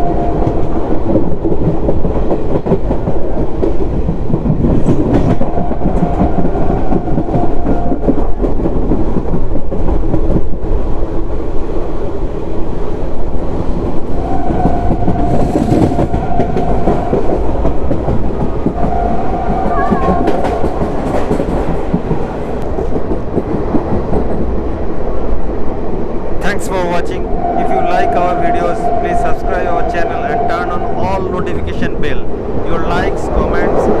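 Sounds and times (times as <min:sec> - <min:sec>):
clickety-clack of rail joints: 0:00.0 - 0:12.0, 0:12.7 - 0:34.0
train wheels rumbling on rail: 0:00.0 - 0:34.0.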